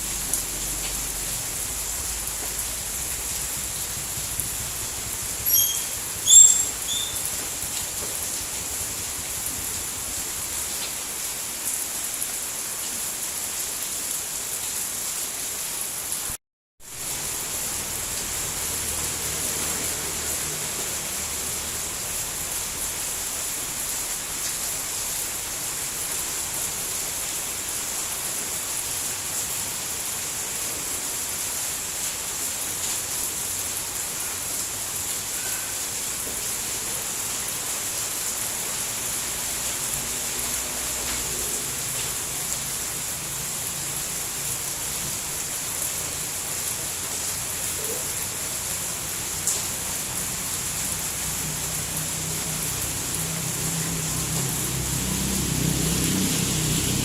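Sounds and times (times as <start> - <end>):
dense rain hiss: 0.0 - 57.0.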